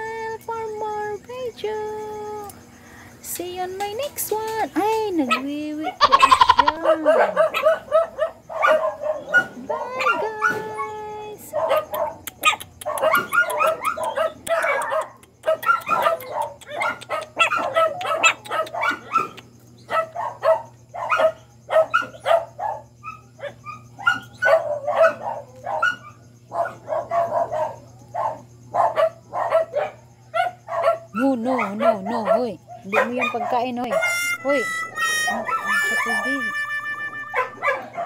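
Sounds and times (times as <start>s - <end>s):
steady low hum: 0.0s - 38.0s
puppies yipping and barking: 5.2s - 38.0s.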